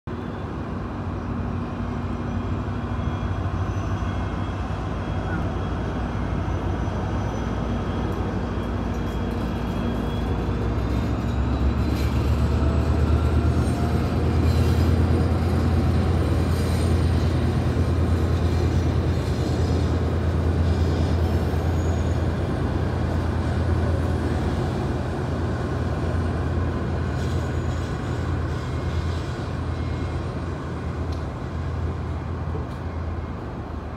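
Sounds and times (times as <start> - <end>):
diesel train rumbling past: 0.1 - 33.9.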